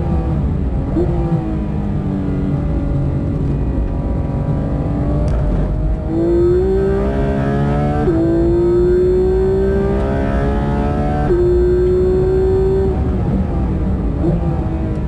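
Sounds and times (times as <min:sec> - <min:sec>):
sports car engine accelerating: 0:00.0 - 0:15.0.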